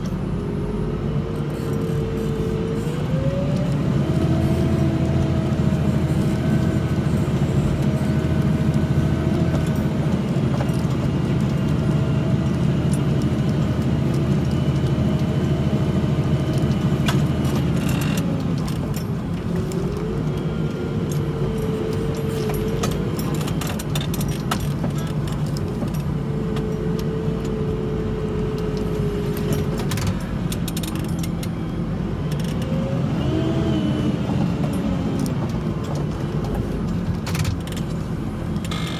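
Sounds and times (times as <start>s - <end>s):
tractor engine running under load: 0.0s - 38.9s
rattles and clicks: 3.3s - 27.6s, 28.5s - 32.8s, 34.2s - 38.9s.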